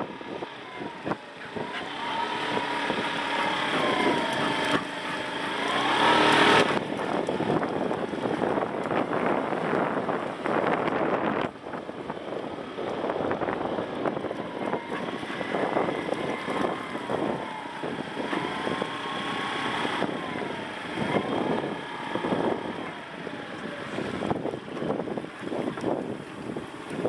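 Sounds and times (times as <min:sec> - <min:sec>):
motorbike engine running: 0:00.0 - 0:27.0
wind noise on microphone: 0:00.0 - 0:27.0.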